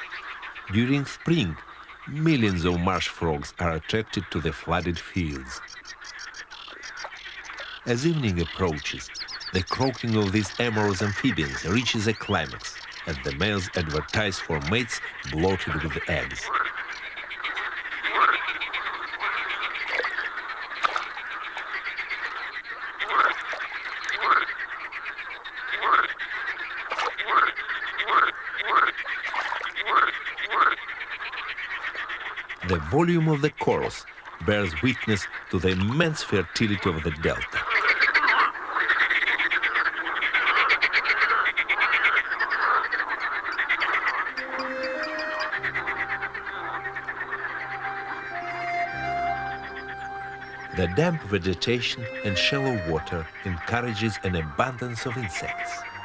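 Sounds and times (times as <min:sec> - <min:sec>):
chorus of frogs croaking: 0:00.0 - 0:56.0.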